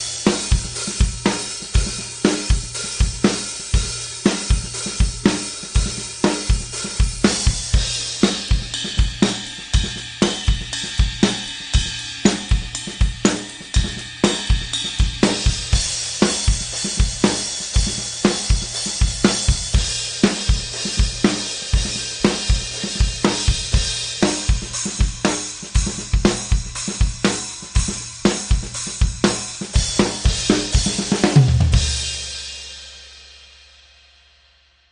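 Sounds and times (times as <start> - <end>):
drum kit beat with cymbals: 0.0 - 34.9.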